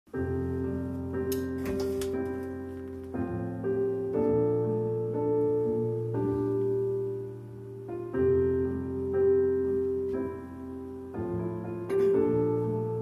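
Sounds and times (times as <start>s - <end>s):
piano sustained chords: 0.2s - 13.0s.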